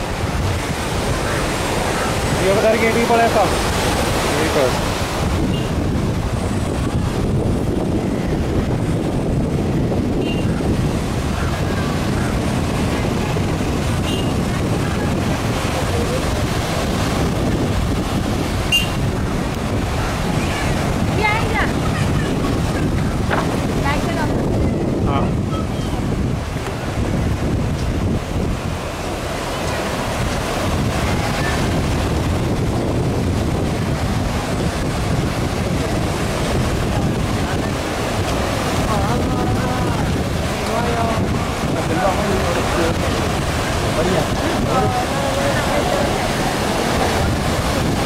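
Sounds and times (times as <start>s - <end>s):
waves breaking on shore: 0.0s - 48.0s
wind buffeting microphone: 0.0s - 48.0s.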